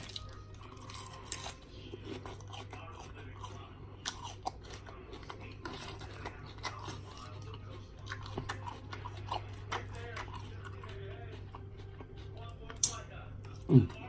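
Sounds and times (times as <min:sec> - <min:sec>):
person chewing wetly: 0:00.0 - 0:14.0.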